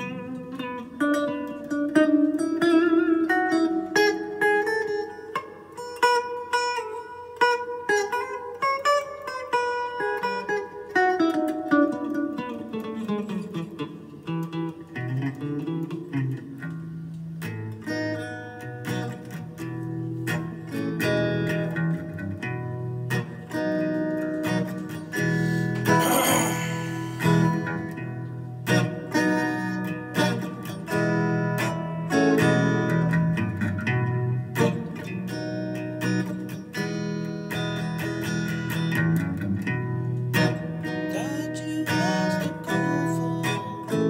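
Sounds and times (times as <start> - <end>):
electric guitar single-note lines: 0.0 - 26.0, 26.7 - 44.0.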